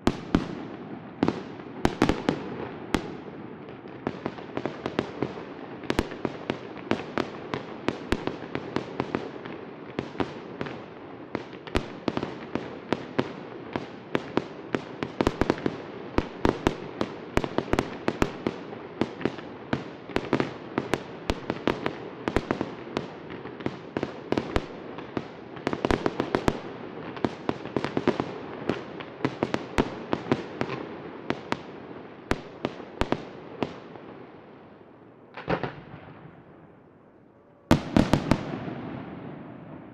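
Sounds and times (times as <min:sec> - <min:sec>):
fireworks bangs and cracks: 0:00.0 - 0:34.2, 0:35.3 - 0:36.5, 0:37.7 - 0:39.9
fireworks crackle and rumble: 0:00.0 - 0:39.9.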